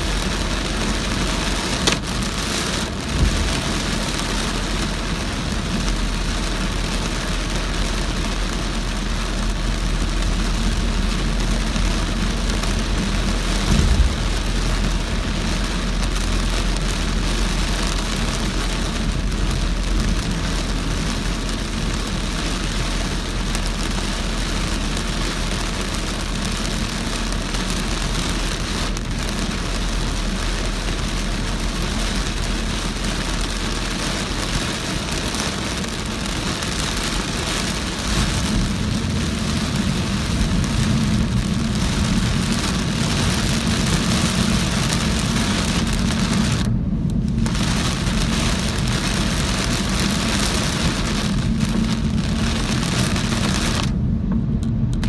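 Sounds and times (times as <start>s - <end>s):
heavy rain drumming on car: 0.0s - 55.0s
low road rumble: 0.0s - 55.0s.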